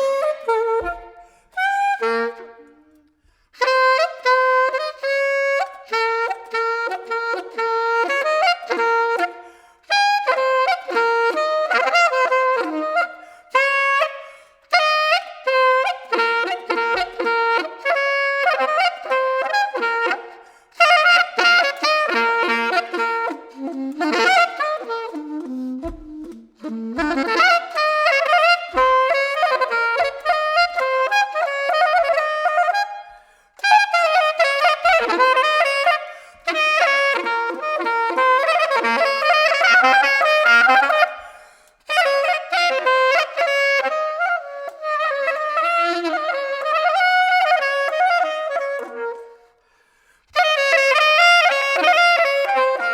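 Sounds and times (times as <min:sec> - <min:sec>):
solo saxophone improvising: 0:00.0 - 0:52.9.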